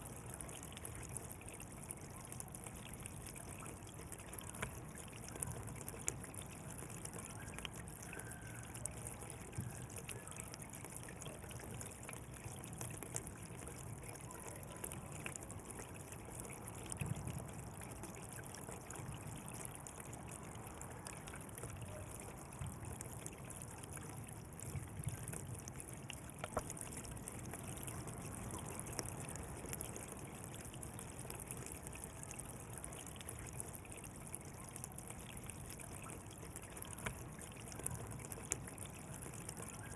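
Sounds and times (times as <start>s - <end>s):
small water splashes: 0.0s - 39.9s
water flowing along a canal: 0.0s - 39.9s.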